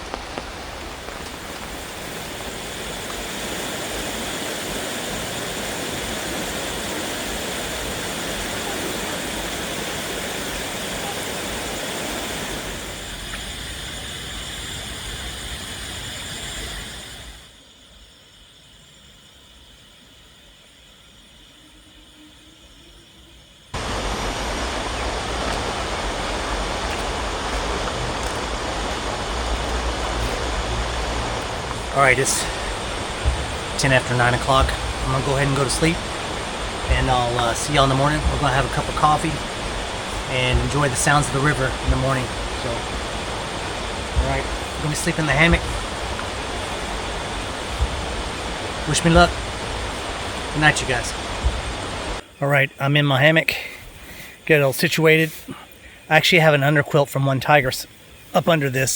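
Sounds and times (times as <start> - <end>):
water rushing: 0.0 - 17.6, 23.7 - 55.2.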